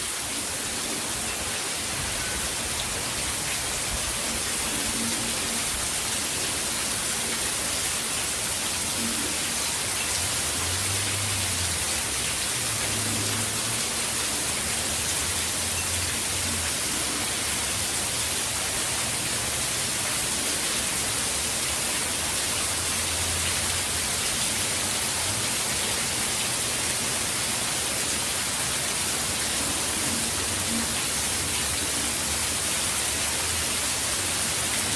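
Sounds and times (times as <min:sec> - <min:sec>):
steady heavy rain: 0:00.0 - 0:34.9.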